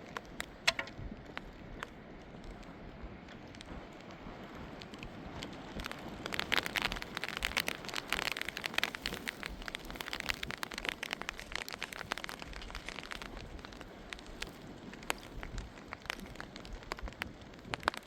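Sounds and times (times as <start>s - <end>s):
rain pattering: 0.0s - 18.0s.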